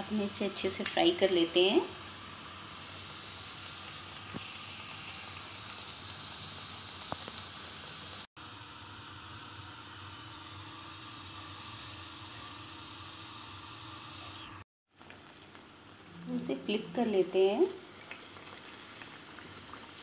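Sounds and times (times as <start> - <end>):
eggplant deep-frying in oil: 0.0 - 20.0.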